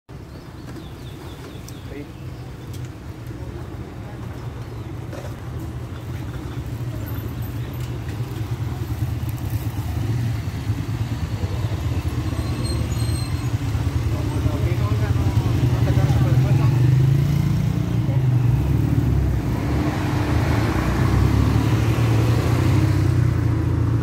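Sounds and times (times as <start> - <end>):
car and motorcycle engines passing: 3.0 - 24.0.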